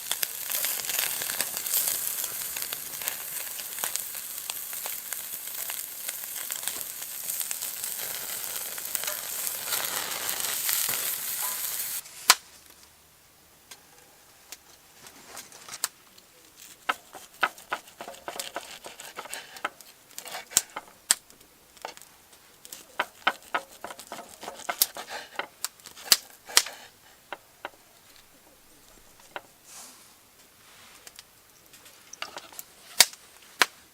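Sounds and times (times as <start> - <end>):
meat sizzling over campfire: 0.0 - 13.0, 14.6 - 33.9
quiet crackles and clicks: 0.0 - 13.0, 13.6 - 29.6, 30.4 - 33.9.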